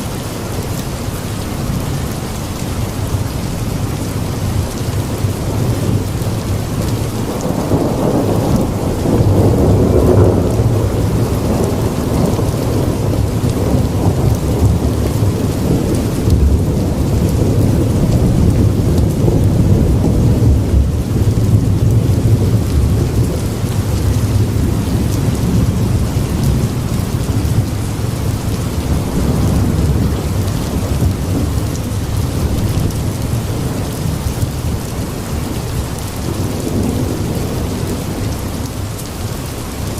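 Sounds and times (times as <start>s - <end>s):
steady rain: 0.0s - 39.9s
rolling thunder: 4.1s - 39.0s.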